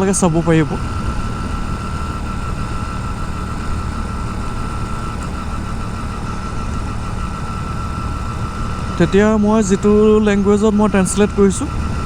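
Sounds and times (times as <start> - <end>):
motorcycle engine running: 0.0 - 12.0
steady high whine: 0.0 - 12.0
wind and road noise: 0.0 - 12.0.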